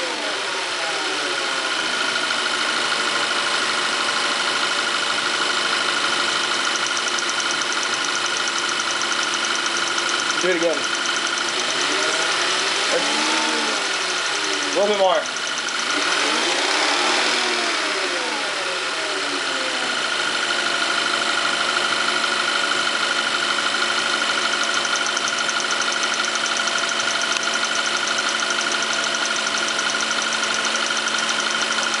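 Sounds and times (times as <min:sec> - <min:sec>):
car engine revving and idling: 0:00.0 - 0:32.0
fast even engine ticking: 0:01.9 - 0:32.0.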